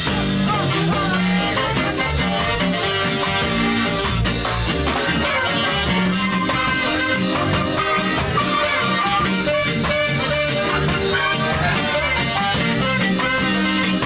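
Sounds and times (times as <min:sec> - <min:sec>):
ska band playing live: 0:00.0 - 0:14.0.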